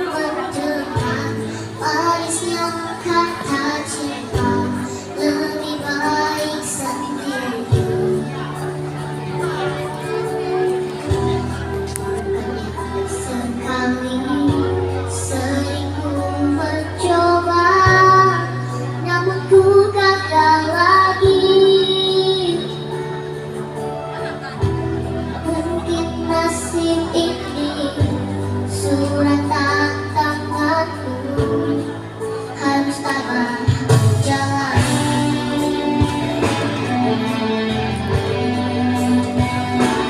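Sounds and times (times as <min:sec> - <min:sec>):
child singing: 0:00.0 - 0:08.7, 0:12.2 - 0:23.1, 0:25.4 - 0:40.0
musical accompaniment: 0:00.0 - 0:40.0.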